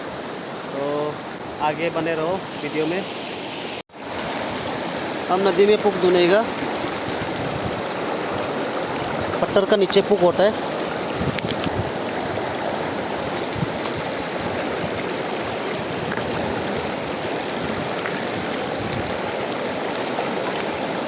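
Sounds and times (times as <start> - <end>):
river water rushing over stones: 0.0 - 21.0.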